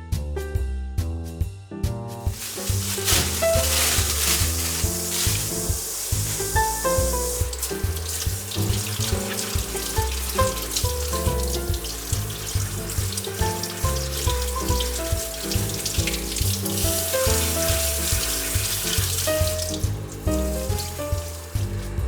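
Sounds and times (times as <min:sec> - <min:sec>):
background music with bass line: 0:00.0 - 0:22.0
tap water running into sink: 0:02.3 - 0:22.0.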